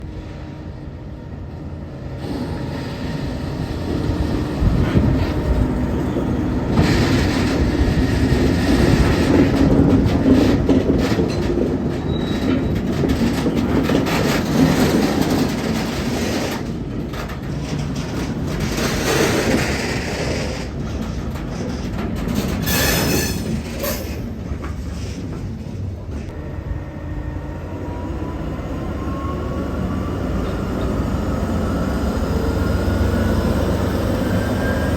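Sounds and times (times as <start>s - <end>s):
train wagons rumbling on rails: 0.0s - 34.9s.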